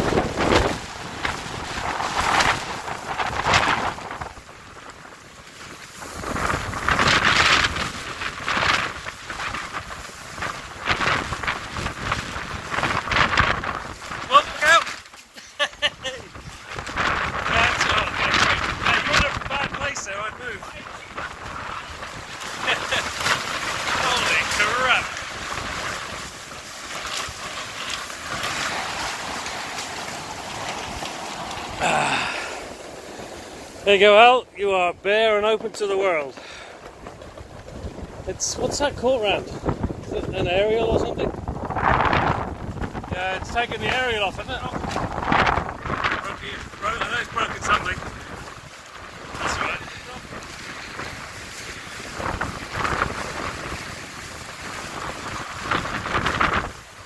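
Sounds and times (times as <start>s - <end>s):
wind buffeting microphone: 0.0s - 35.4s, 36.2s - 57.0s
loose material flapping: 0.0s - 57.0s
strong wind gusting: 0.0s - 57.0s.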